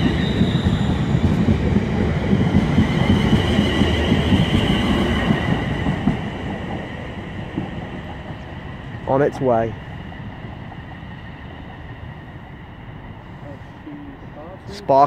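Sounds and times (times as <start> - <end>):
train high whine: 0.0 - 15.0
train wheels rumbling on rails: 0.0 - 15.0.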